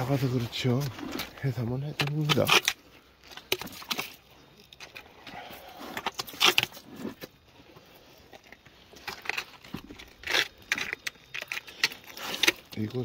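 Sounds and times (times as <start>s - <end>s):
wet stones clinking and scraping: 0.0s - 13.0s.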